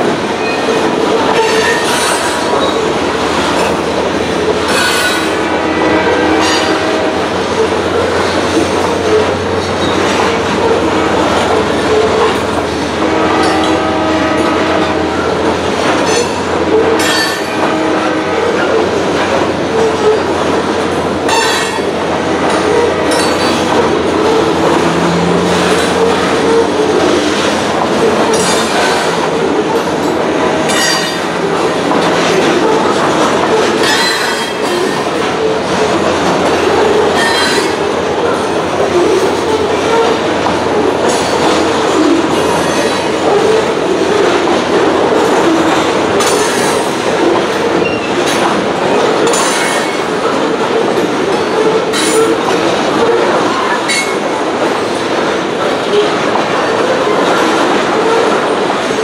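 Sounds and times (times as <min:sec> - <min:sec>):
train wheels rumbling on rails: 0:00.0 - 0:59.0
wheels clacking over rail joints: 0:00.0 - 0:59.0.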